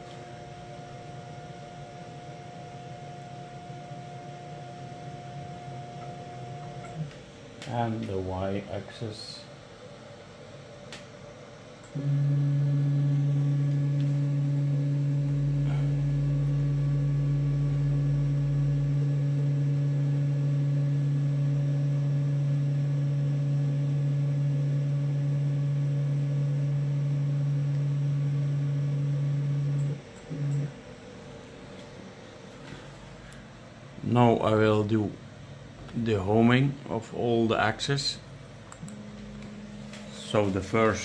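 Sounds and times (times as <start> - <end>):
stepper motors humming: 0.0 - 34.6, 38.5 - 41.0.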